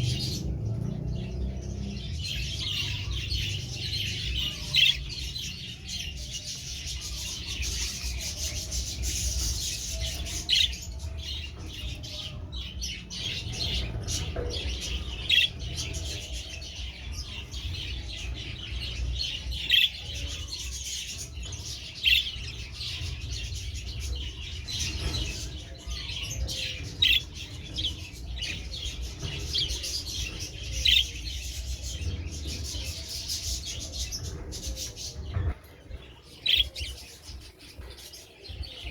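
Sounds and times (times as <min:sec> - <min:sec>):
budgerigars chirping: 0:00.0 - 0:35.4.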